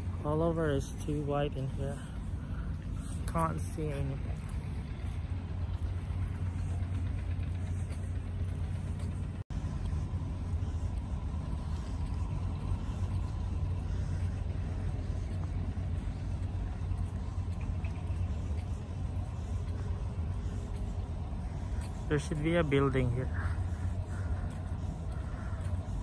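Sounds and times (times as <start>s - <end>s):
engine rumbling: 0.0s - 26.0s.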